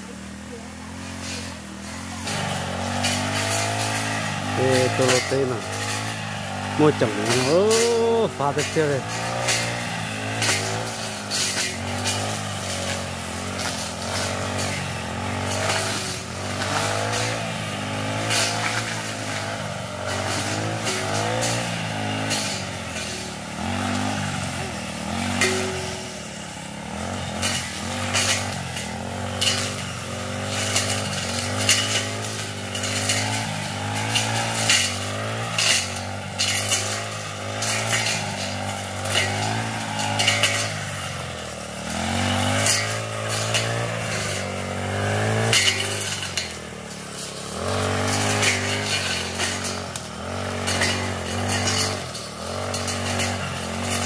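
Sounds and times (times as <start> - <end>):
brush cutter engine running: 0.0 - 54.0
blade striking brush: 1.1 - 54.0.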